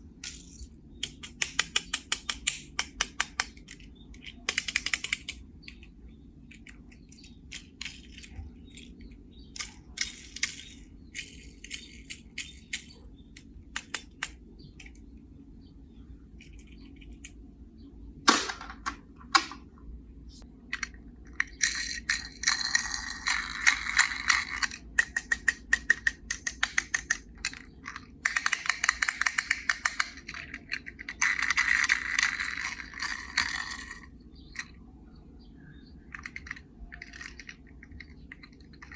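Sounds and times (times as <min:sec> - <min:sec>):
small hard objects clicking: 0:00.2 - 0:15.0, 0:20.7 - 0:34.8, 0:36.1 - 0:38.9.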